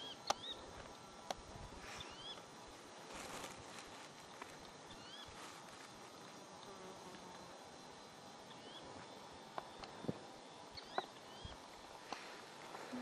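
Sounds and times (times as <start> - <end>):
soft background hiss: 0.0 - 13.0.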